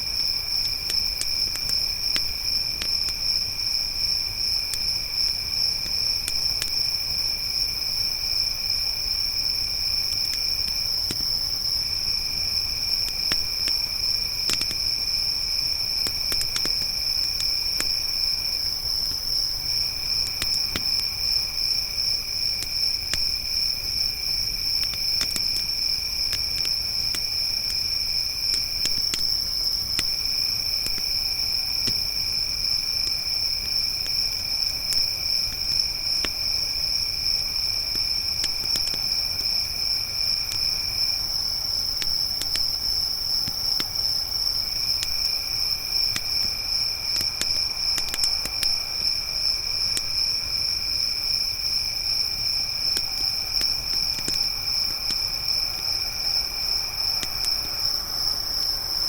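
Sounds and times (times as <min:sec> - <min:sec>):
crickets trilling high: 0:00.0 - 0:59.0
campfire crackling and popping: 0:00.2 - 0:59.0.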